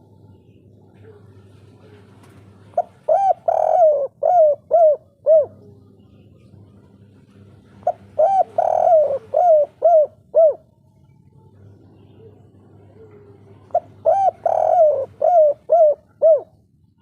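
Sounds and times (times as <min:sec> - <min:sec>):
dove cooing: 0:00.0 - 0:10.8, 0:12.0 - 0:16.7.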